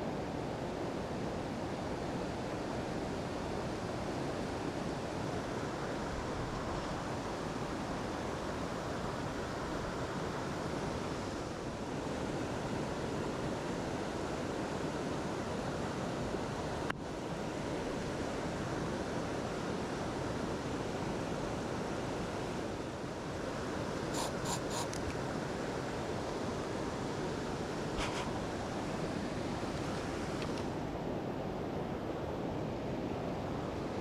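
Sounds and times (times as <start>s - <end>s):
stream rushing over rocks: 2.0s - 34.0s.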